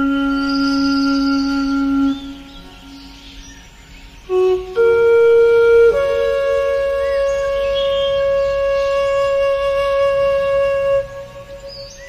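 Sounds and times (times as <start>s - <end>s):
breathy wind instrument notes: 0.0s - 12.0s.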